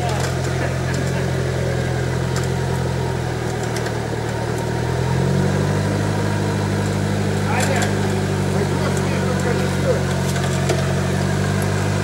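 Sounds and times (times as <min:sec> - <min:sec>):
truck engine running at low revs: 0:00.0 - 0:12.0.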